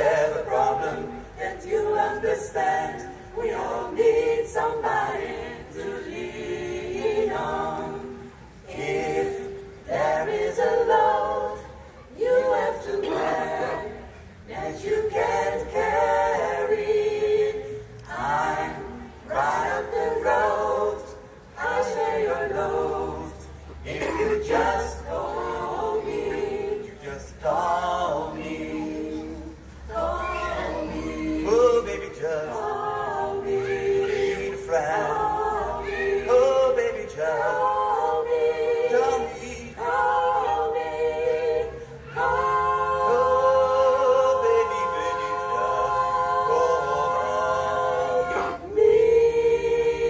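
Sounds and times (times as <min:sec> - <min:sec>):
mixed vocal group singing a cappella: 0:00.0 - 0:50.0.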